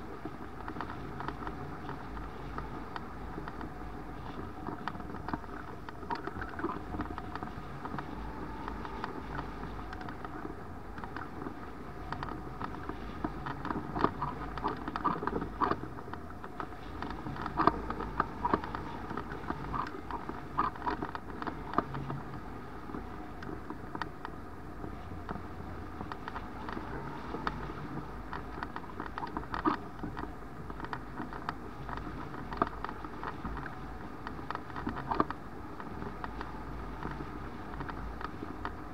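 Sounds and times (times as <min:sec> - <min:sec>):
wind buffeting crackles: 0:00.0 - 0:38.9
wind rushing over camera: 0:00.0 - 0:38.9.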